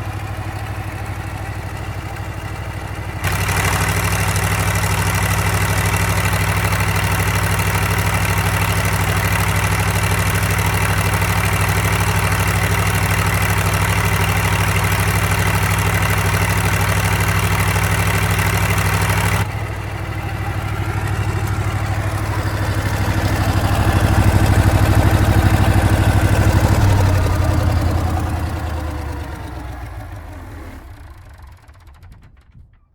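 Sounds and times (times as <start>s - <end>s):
diesel generator engine running: 0.0s - 32.6s.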